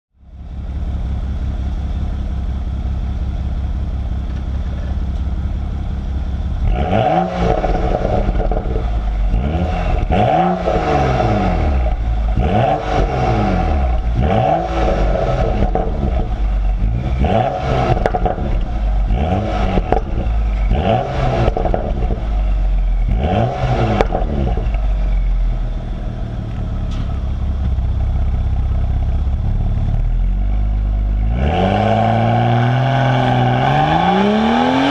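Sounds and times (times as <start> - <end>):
car engine revving: 0.5 - 34.9.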